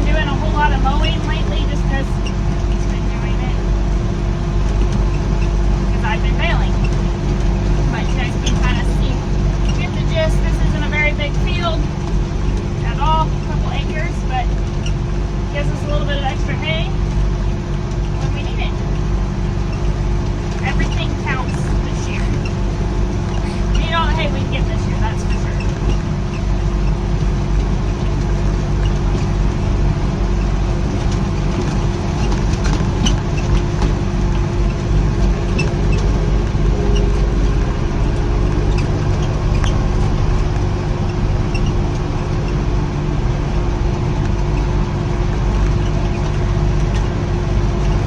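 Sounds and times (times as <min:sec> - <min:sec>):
tractor engine humming: 0:00.0 - 0:48.0.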